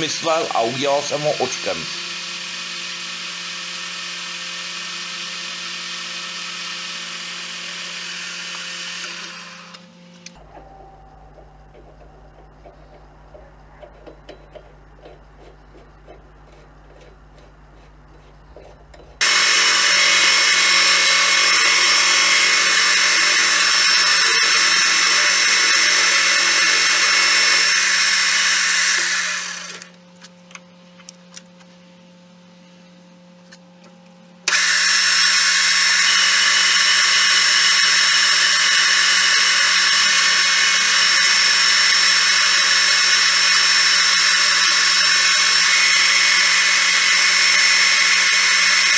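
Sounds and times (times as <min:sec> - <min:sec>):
metal lathe running: 0:00.0 - 0:30.0, 0:34.5 - 0:48.9.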